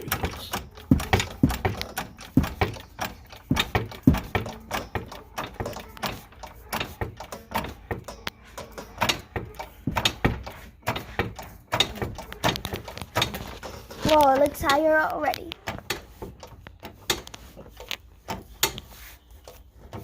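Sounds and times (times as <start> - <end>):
floor jack pumping clicks: 0.0 - 20.0.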